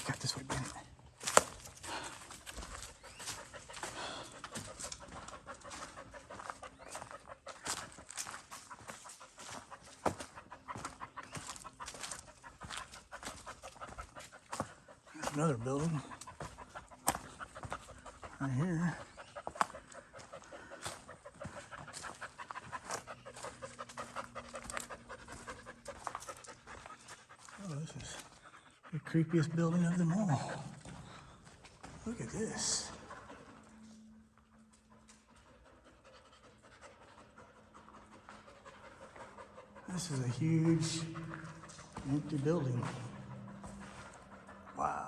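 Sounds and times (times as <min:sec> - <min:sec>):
footsteps crunching: 0:00.0 - 0:28.4, 0:30.4 - 0:35.6, 0:37.6 - 0:45.0
dog panting: 0:00.0 - 0:45.0.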